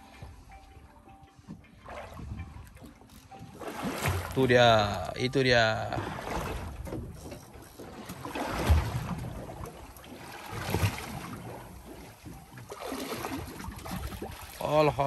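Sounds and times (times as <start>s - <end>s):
water slapping against boat hull: 1.5s - 15.0s.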